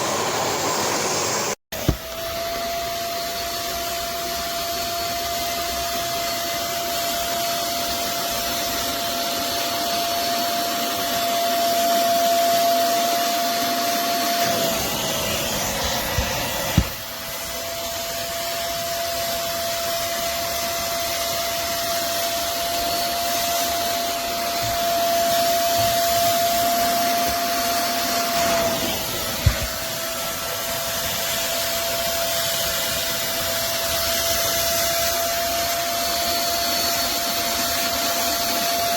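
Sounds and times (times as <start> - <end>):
suction motor whining: 0.0 - 38.9.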